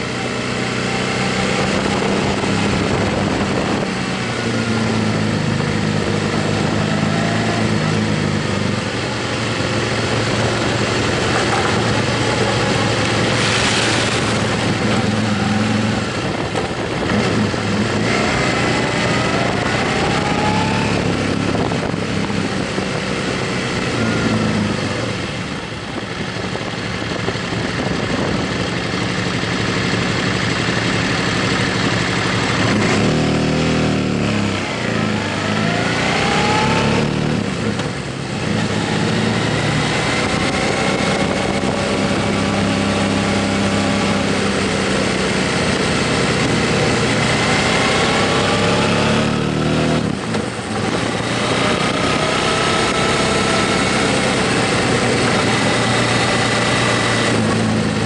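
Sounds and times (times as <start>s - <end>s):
motorcycle engine running: 0.0s - 58.0s
rush of wind noise: 0.0s - 58.0s.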